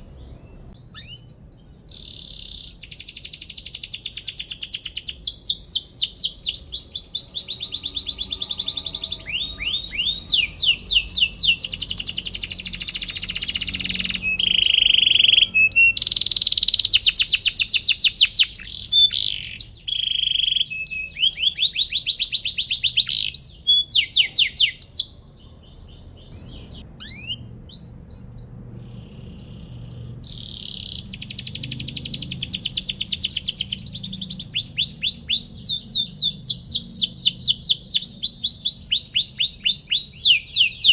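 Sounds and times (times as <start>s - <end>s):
canary singing trills: 0.0s - 40.9s
soft bird chirps: 0.0s - 40.9s.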